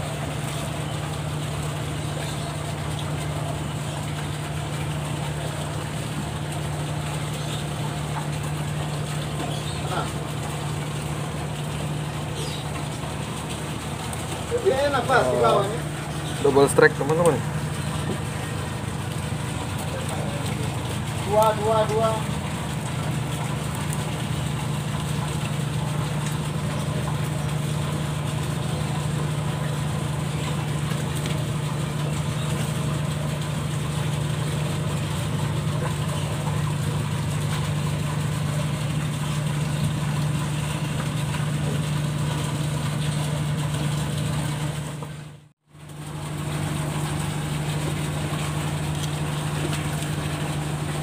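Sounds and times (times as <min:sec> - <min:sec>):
large engine humming: 0:00.0 - 0:51.0.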